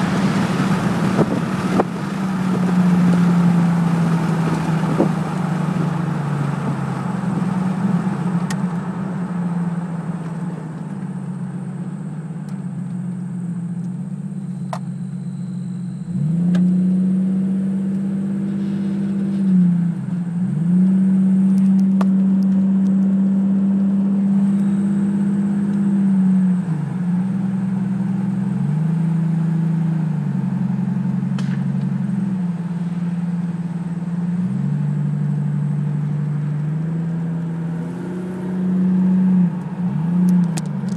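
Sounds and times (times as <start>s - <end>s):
car engine and road drone: 0.0s - 40.9s.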